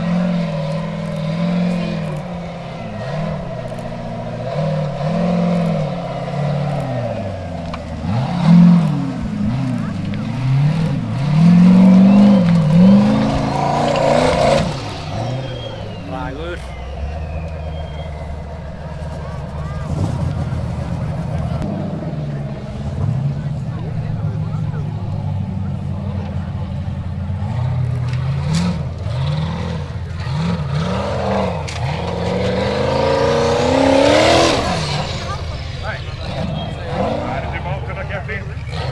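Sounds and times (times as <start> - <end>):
buggy engine revving hard: 0.0 - 38.9.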